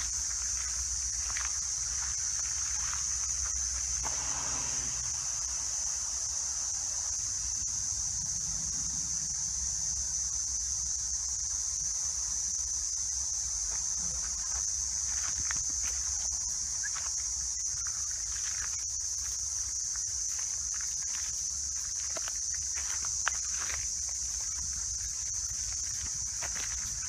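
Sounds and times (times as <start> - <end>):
insects shrilling: 0.0 - 27.0.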